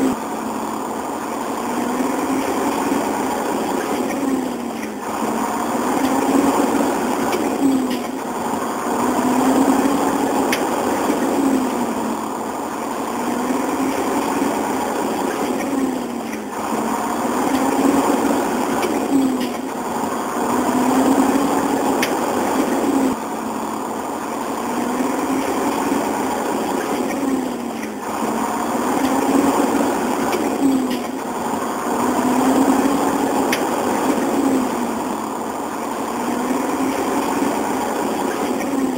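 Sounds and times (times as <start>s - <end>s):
engine running with rising pitch: 0.0s - 38.9s.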